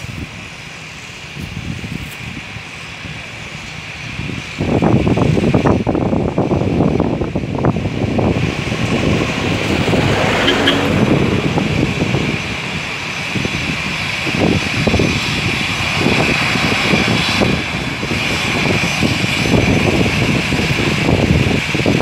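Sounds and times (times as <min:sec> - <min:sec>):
jet engines whining: 0:00.0 - 0:22.0
wind rumbling on microphone: 0:00.0 - 0:22.0.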